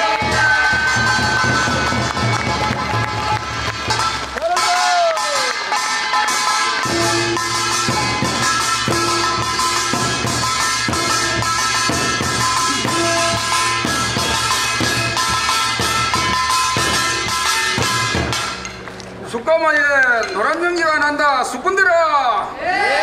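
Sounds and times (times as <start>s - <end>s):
metal gongs ringing: 0.0s - 19.2s
drums beating: 0.0s - 21.2s.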